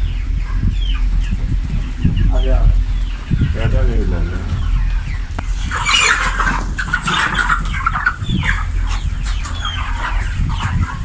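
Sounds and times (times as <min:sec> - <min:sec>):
chicks cheeping: 0:00.0 - 0:11.0
ventilation fans humming: 0:00.0 - 0:11.0.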